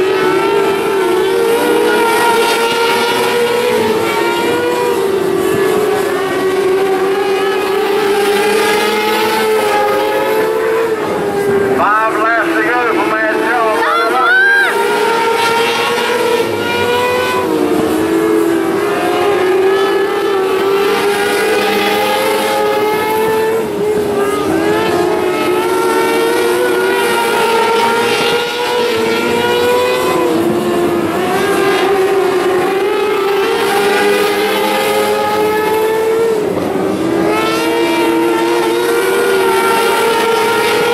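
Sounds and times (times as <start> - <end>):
racing car engines at high revs: 0.0 - 40.9.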